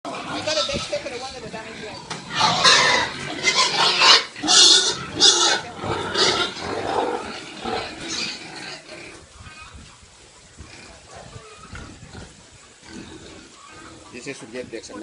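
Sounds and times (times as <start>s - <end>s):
pigs squealing: 0.1s - 9.9s, 10.6s - 14.5s.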